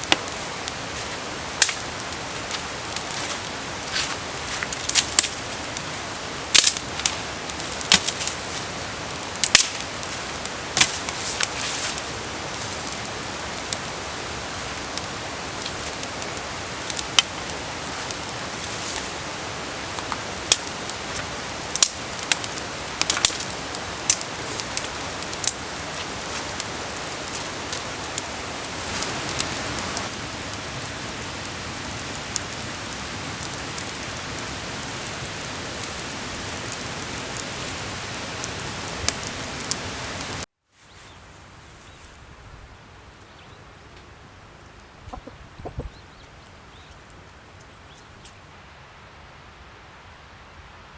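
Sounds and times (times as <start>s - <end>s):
campfire crackling and popping: 0.0s - 40.5s, 43.9s - 48.4s.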